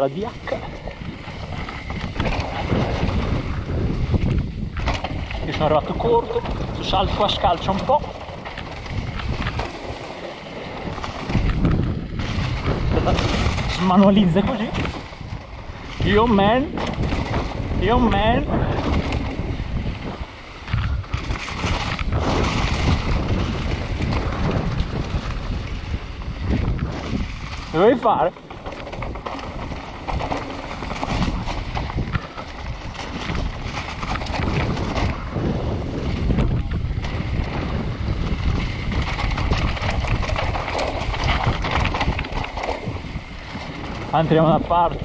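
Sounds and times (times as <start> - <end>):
mountain bike rumble and rattle: 0.0 - 45.0
wind rushing over microphone: 0.0 - 45.0
bike knocking over bumps: 0.3 - 45.0.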